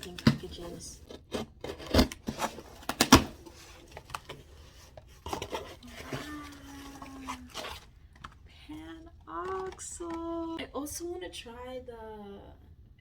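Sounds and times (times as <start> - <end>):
packaging crackling and rustling: 0.0 - 10.5.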